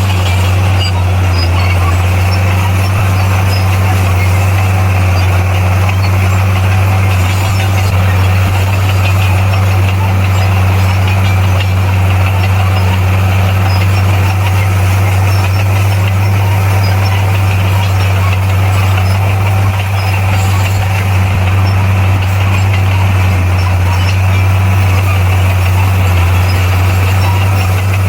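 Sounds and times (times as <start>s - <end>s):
bulldozer diesel engine drone: 0.0s - 28.0s.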